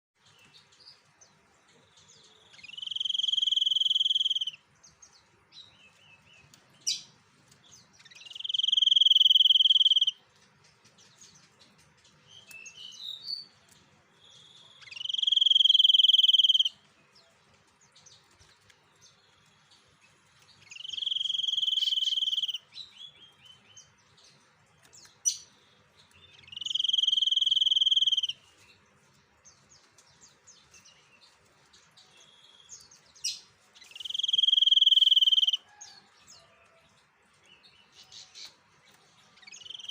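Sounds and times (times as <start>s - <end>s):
bird chirps and ticks: 0.2s - 39.9s.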